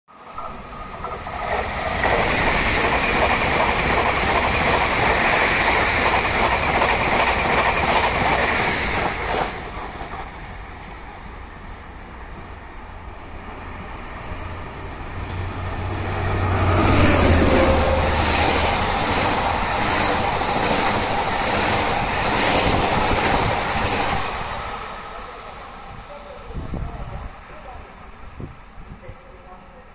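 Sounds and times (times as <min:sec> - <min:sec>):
electric train passing: 0:00.1 - 0:29.4
diesel locomotive engine drone: 0:00.2 - 0:28.6
wheels rushing on rail with whine: 0:00.2 - 0:28.9.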